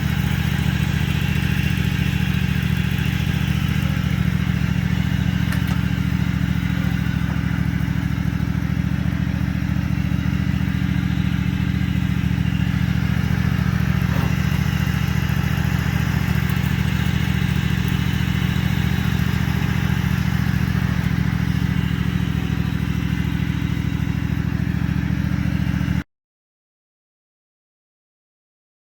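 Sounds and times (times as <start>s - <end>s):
small engine running steadily: 0.0s - 26.0s.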